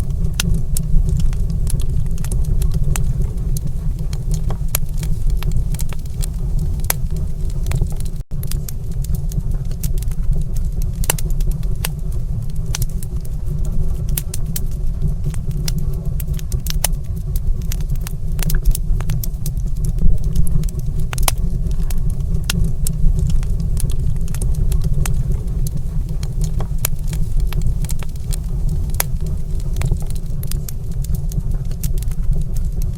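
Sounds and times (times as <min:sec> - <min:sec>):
fire crackling and popping: 0:00.0 - 0:32.9
low roar of fire: 0:00.0 - 0:32.9.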